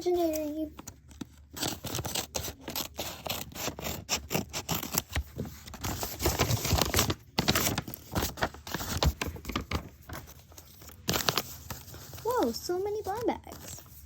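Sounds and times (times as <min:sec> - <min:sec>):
packaging tearing and rustling: 0:00.2 - 0:14.0.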